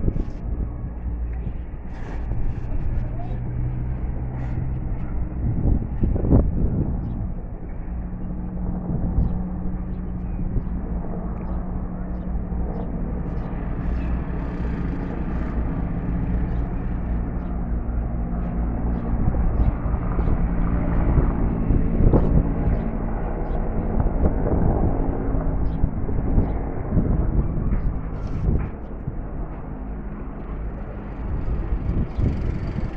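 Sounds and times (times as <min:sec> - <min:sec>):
engine drone: 0:00.0 - 0:32.9
low rumble: 0:00.0 - 0:32.9.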